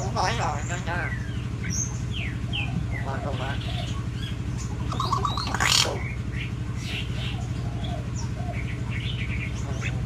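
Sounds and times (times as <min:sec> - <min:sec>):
myna birds calling: 0:00.0 - 0:10.0
steady low hum: 0:00.0 - 0:10.0.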